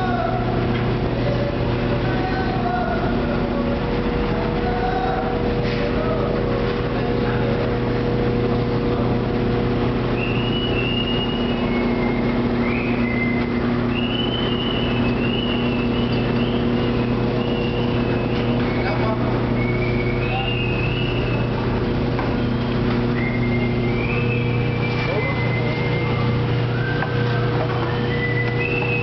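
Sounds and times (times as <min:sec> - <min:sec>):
jug-washing machine droning: 0:00.0 - 0:29.0.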